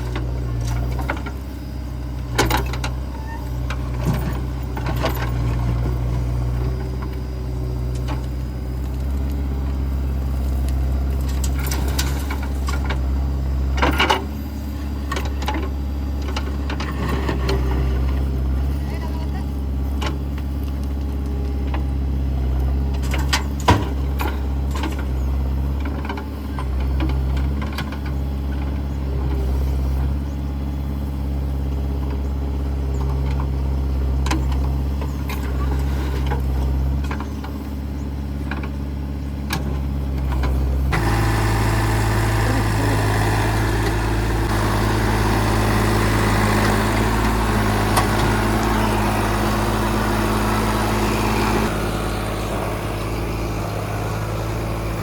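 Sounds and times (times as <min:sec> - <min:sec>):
heavy diesel engine running: 0:00.0 - 0:55.0
rough loud engine running: 0:00.0 - 0:55.0.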